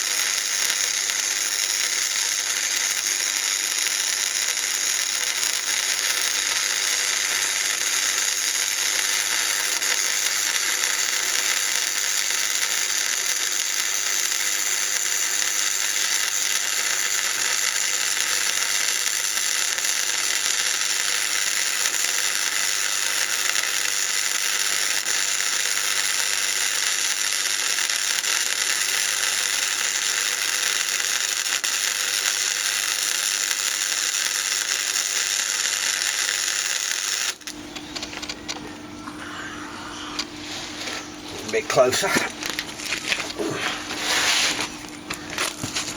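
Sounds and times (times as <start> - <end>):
electric arc welding crackle: 0.0 - 38.4, 39.9 - 45.9.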